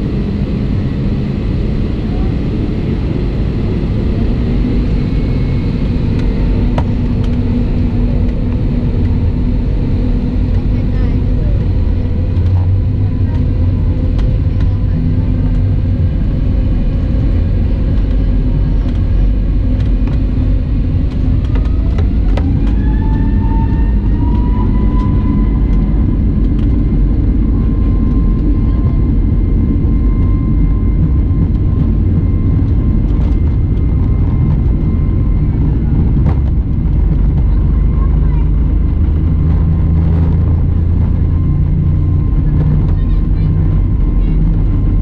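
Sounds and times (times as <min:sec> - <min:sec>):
airplane cabin rumble: 0:00.0 - 0:45.0
jet engine whine rising: 0:00.0 - 0:45.0.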